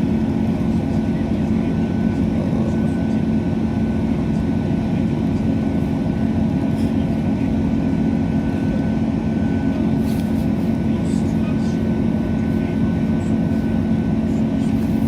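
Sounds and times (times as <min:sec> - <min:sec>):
thin steady whine: 0:00.0 - 0:15.0
train engine hum: 0:00.0 - 0:15.0.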